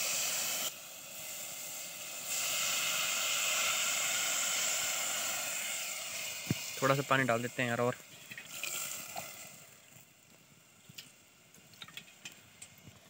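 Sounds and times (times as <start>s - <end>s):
water hissing in hot pot: 0.0s - 13.0s.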